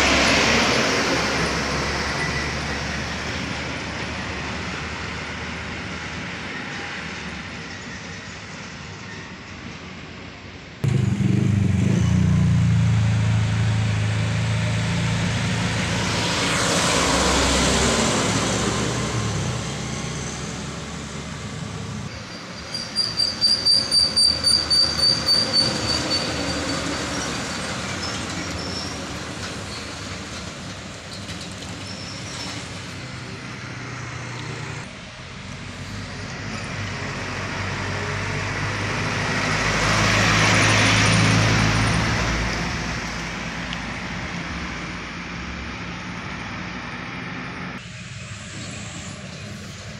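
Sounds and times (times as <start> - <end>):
trucks driving past: 0.0 - 7.6, 10.8 - 23.4, 24.1 - 49.9.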